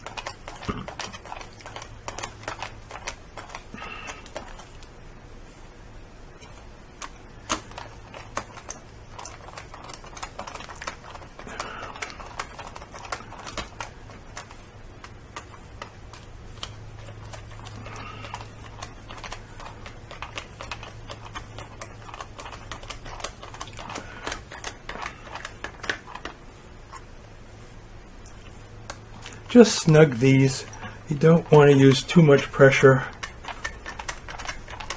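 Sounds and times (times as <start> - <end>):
low steady hum: 0.0 - 34.9.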